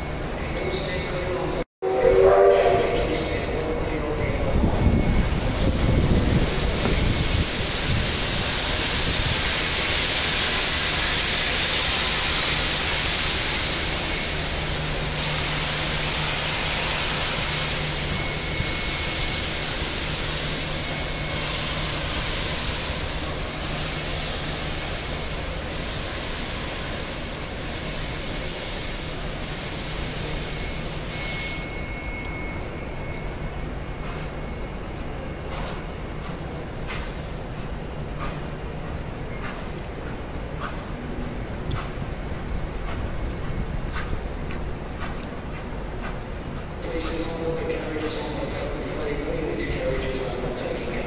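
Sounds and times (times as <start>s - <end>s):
steam hissing: 4.4s - 51.0s.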